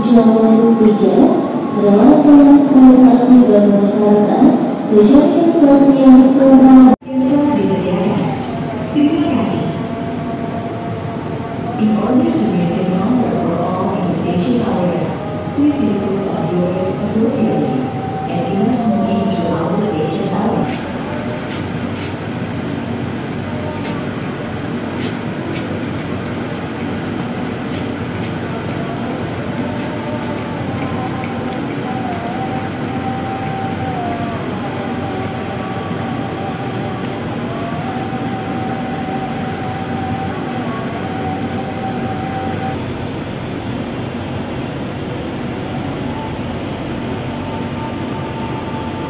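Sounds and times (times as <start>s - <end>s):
train running hum: 0.0s - 49.0s
wavering thin whine: 0.0s - 49.0s.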